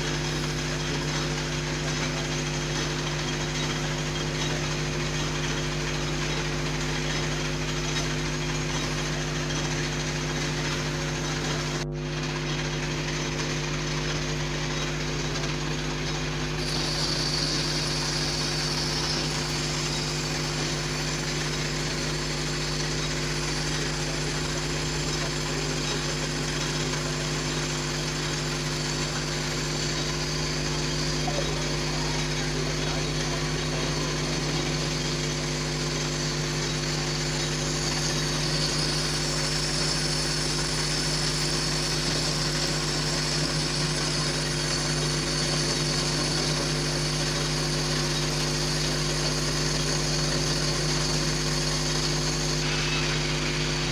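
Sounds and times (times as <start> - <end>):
high hiss: 0.0 - 11.8, 15.7 - 53.9
metal lathe motor hum: 0.0 - 53.9.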